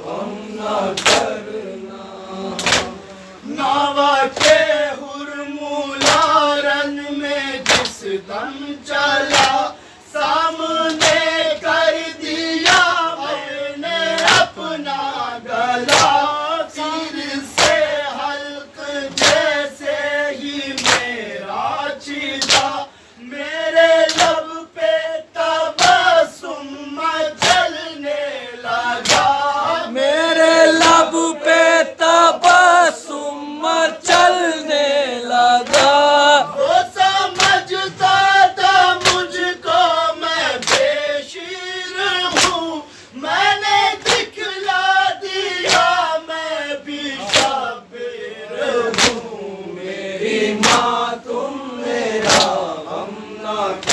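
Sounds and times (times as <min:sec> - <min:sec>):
men chanting a lament: 0:00.0 - 0:53.9
man reciting on a microphone: 0:01.6 - 0:48.5.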